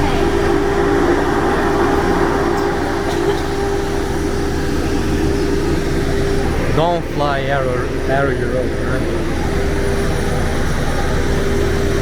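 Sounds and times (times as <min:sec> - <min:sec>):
cabin ventilation hum: 0:00.0 - 0:10.6
steady whine: 0:00.0 - 0:12.0.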